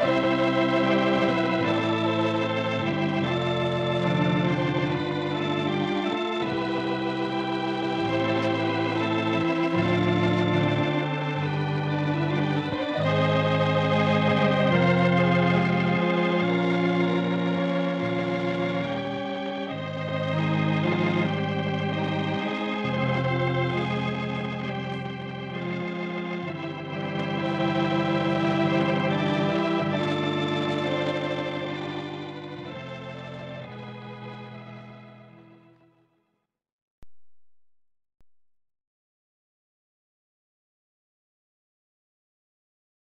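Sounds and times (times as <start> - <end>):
organ playing slow chords: 0.0 - 36.1.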